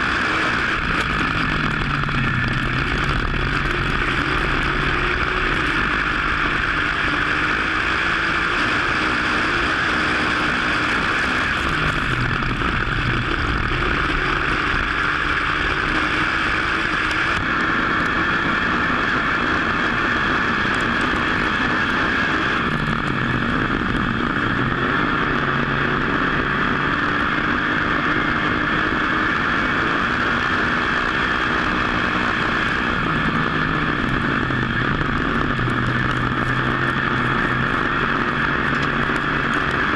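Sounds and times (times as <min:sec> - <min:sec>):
constant rushing noise: 0:00.0 - 0:39.9
race car engine at speed: 0:00.0 - 0:39.9.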